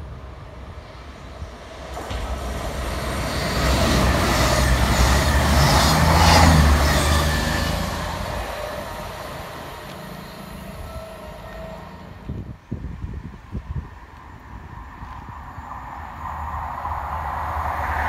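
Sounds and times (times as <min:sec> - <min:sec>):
diesel train engine drone: 0:00.0 - 0:18.0
train wheels and air rushing: 0:00.0 - 0:18.0.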